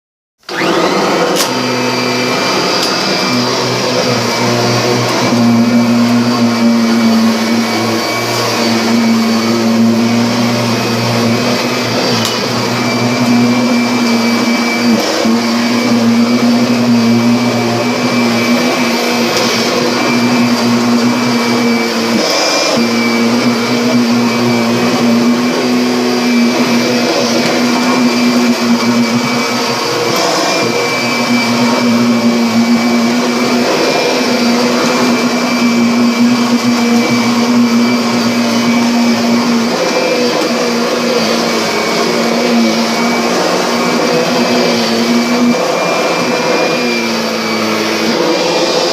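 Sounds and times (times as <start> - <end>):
vacuum cleaner running: 0.4 - 48.9.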